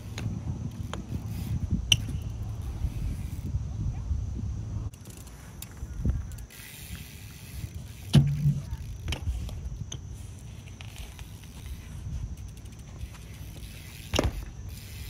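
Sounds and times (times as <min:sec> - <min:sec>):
bicycle clicks and knocks: 0:00.0 - 0:03.5, 0:04.9 - 0:15.0
bicycle tyres rolling: 0:00.0 - 0:15.0.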